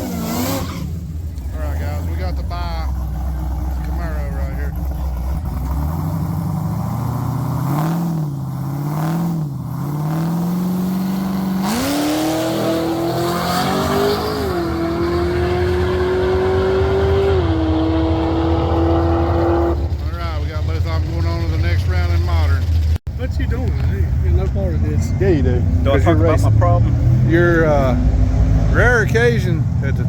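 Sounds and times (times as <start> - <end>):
racing car engine revving: 0.0 - 30.0.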